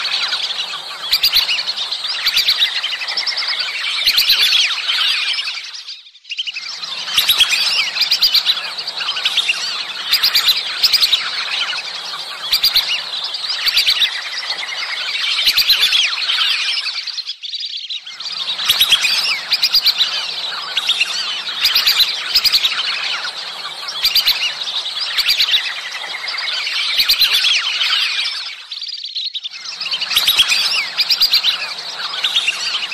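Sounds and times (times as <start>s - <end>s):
whistling ducks calling: 0.0s - 32.9s.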